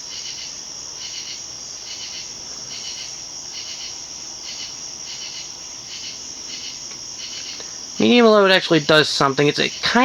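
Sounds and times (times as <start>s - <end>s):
insect high-pitched trill: 0.0s - 10.0s
pulsing insect call: 0.0s - 10.0s.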